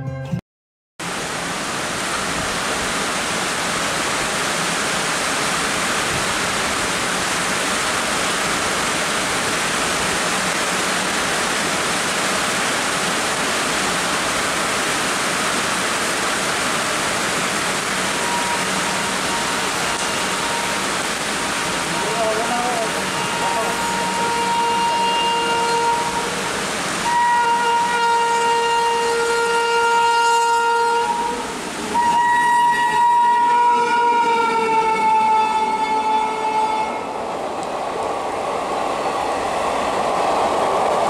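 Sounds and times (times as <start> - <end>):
heavy rain pouring: 1.0 - 41.0.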